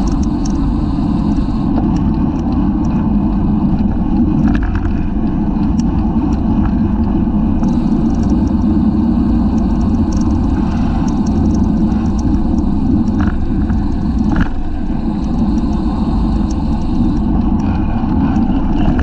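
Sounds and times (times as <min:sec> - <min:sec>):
faint clicks and rattles: 0:00.0 - 0:19.0
wind rush on microphone: 0:00.0 - 0:19.0.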